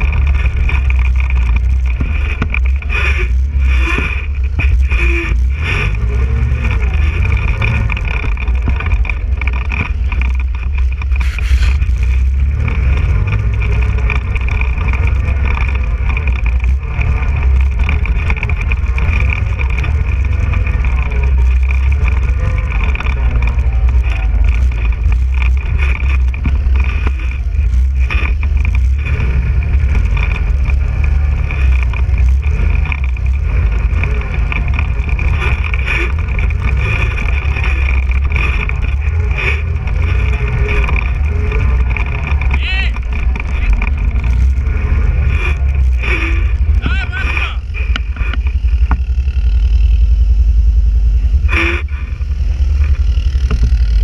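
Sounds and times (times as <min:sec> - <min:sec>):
quad bike engine revving: 0:00.0 - 0:54.0
steady high whine: 0:00.0 - 0:54.0.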